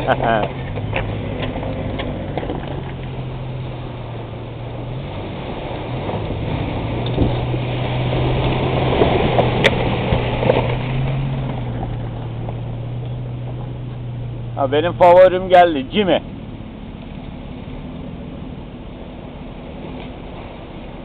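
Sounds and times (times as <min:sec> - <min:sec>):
suv engine running: 0:00.0 - 0:21.0
tyres splashing through water: 0:00.0 - 0:21.0.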